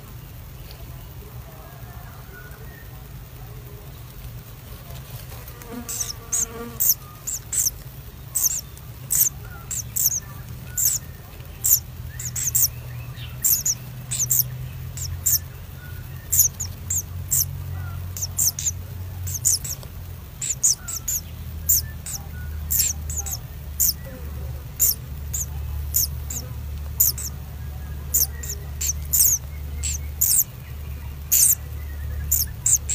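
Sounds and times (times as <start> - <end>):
steady low hum: 0.0 - 32.9
birds chirping shrilly: 5.4 - 32.9.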